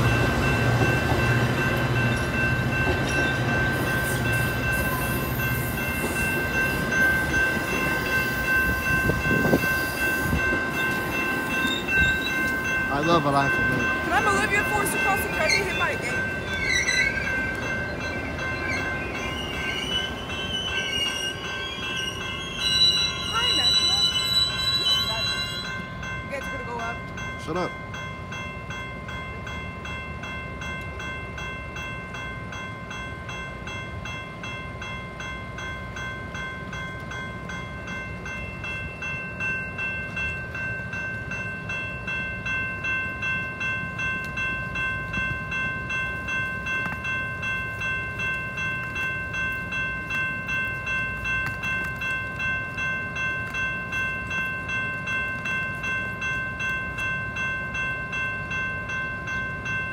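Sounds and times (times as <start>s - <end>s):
railroad crossing bell ringing: 0.0s - 59.9s
train rumbling: 0.0s - 59.9s.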